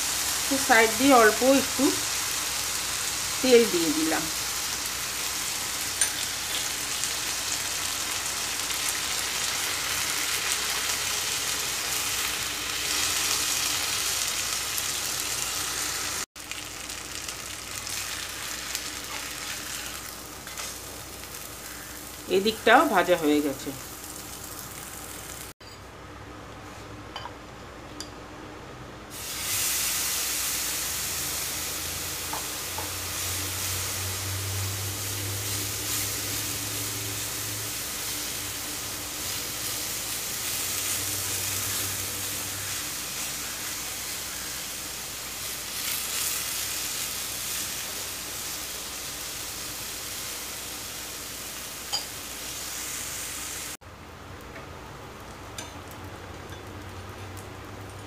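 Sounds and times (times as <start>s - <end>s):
batter sizzling on hot griddle: 0.0s - 25.6s, 29.1s - 53.8s.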